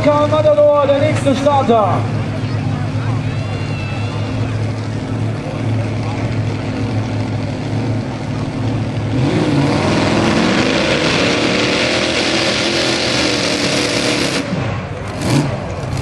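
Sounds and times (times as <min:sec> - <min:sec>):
tractor engine running flat out: 0:00.0 - 0:16.0.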